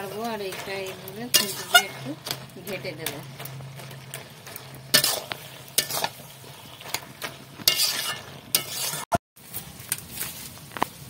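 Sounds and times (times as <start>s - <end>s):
metal spatula scraping pan: 0.0s - 9.2s
faint sizzle: 0.0s - 11.0s.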